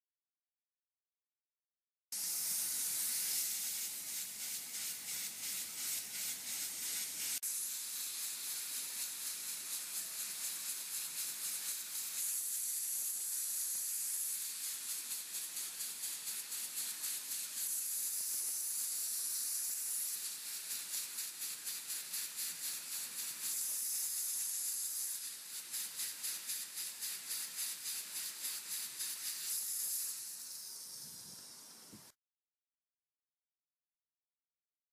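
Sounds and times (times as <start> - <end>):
steam cleaner hissing: 2.1 - 32.2.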